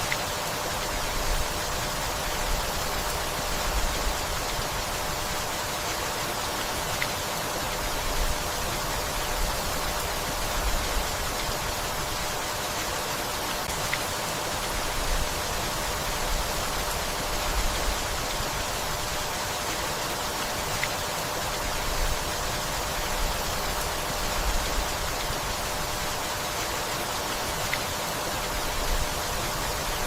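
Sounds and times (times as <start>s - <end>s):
rain on leaves and wood: 0.0s - 30.0s.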